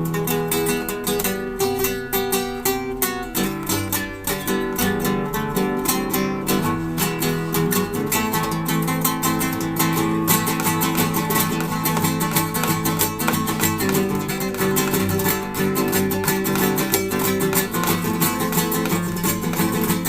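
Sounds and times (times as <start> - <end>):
acoustic guitar strumming and plucking: 0.0 - 20.0.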